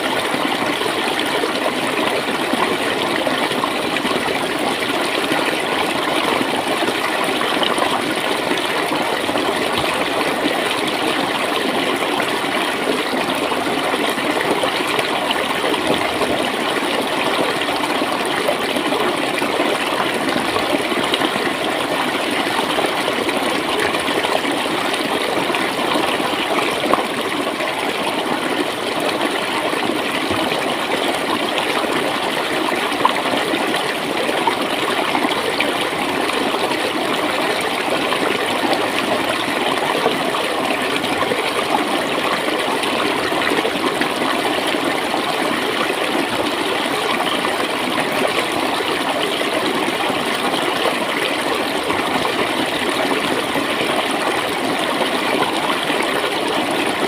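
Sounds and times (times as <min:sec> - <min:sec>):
stream running and gurgling: 0:00.0 - 0:57.0.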